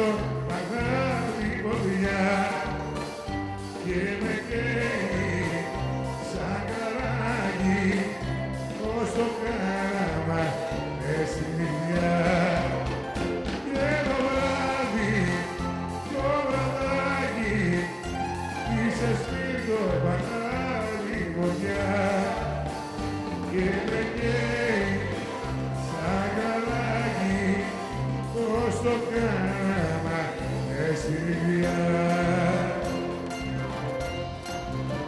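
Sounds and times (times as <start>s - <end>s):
live band through a pa: 0.0s - 35.0s
pulsing bass line: 0.0s - 35.0s.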